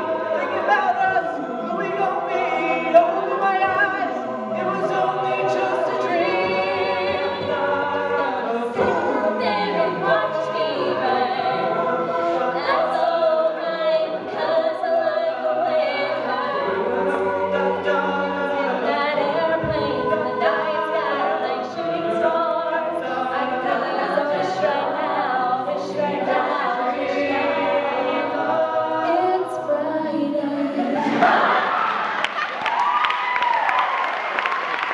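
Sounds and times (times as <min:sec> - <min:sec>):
a cappella group singing: 0:00.0 - 0:32.3.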